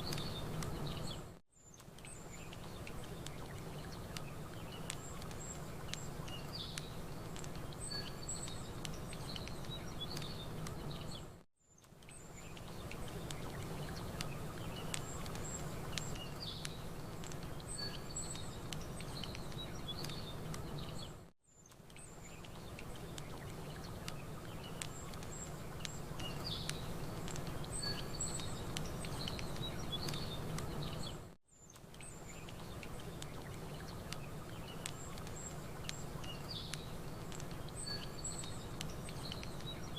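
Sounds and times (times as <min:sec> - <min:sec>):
campfire crackling: 0:00.0 - 0:39.9
gentle lake water: 0:00.0 - 0:39.9
small birds chirping: 0:00.0 - 0:39.9.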